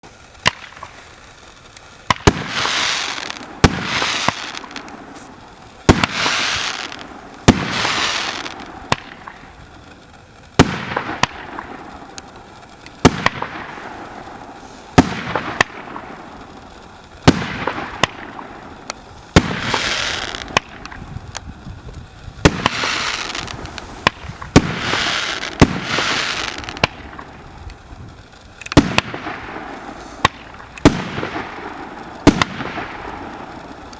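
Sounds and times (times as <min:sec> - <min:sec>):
firework battery shots banging: 0:00.0 - 0:33.9
firework rushing noise: 0:00.0 - 0:33.9.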